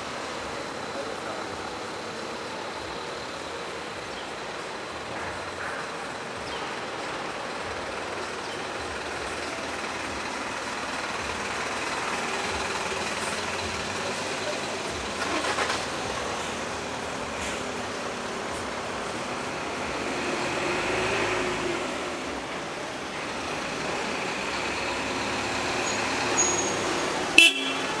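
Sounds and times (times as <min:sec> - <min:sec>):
street traffic passing: 0:00.0 - 0:28.0
loud vehicle passing: 0:05.0 - 0:28.0.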